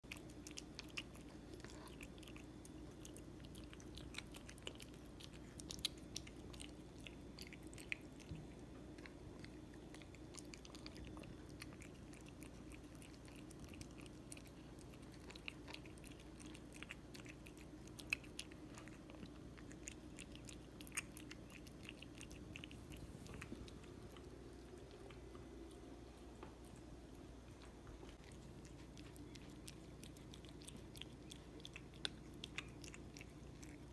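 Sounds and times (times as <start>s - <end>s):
cat chewing food: 0.0s - 33.9s
faint steady hum: 0.0s - 33.9s.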